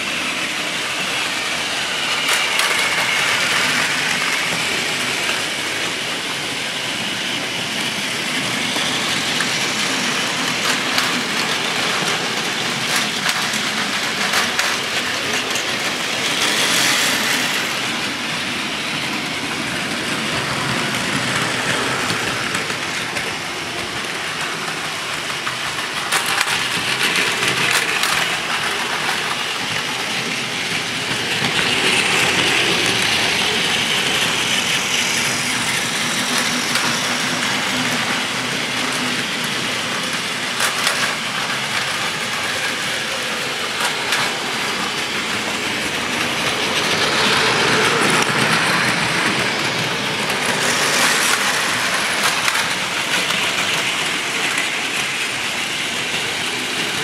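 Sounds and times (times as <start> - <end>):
toy trains whirring and rattling: 0.0 - 57.0.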